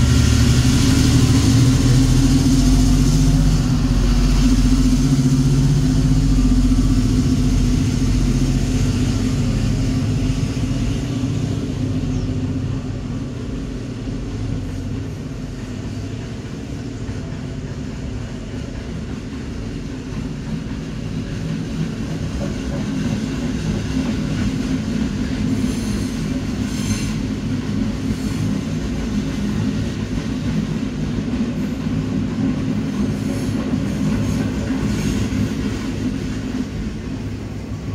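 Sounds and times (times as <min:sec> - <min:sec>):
locomotive low drone: 0:00.0 - 0:37.9
train wheels rumbling on rail: 0:00.0 - 0:37.9.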